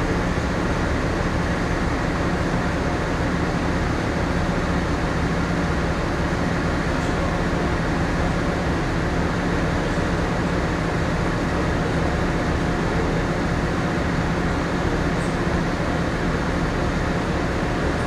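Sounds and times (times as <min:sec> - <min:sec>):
ship machinery hum: 0:00.0 - 0:18.0.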